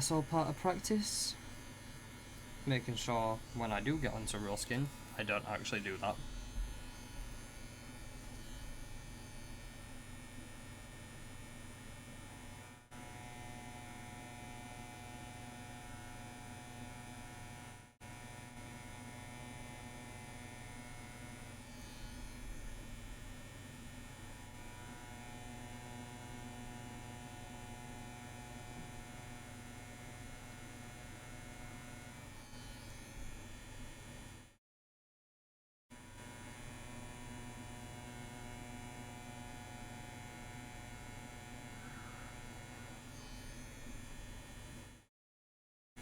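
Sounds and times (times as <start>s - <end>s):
tattoo machine buzzing: 0.0s - 34.5s, 36.0s - 45.0s.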